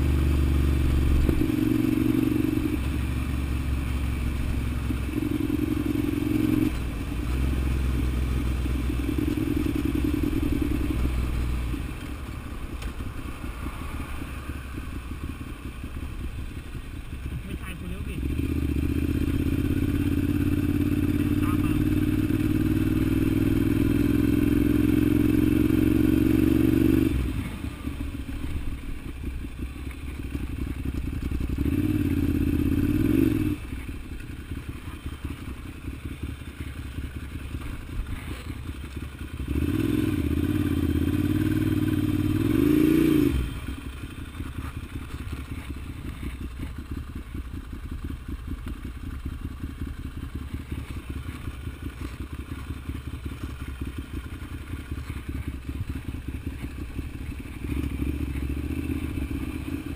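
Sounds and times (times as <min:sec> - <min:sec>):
motorcycle engine revving and burbling: 0:00.0 - 0:59.9.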